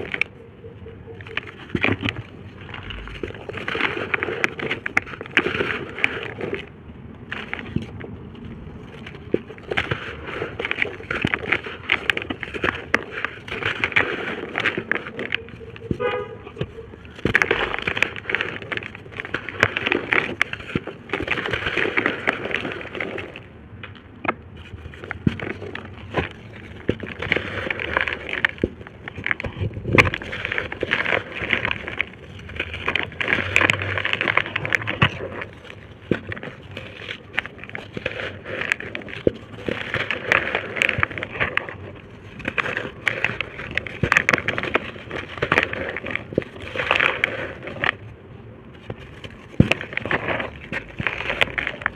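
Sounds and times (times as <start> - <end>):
dirt bricks crushed and crumbling: 0.0 - 0.4, 1.1 - 51.9.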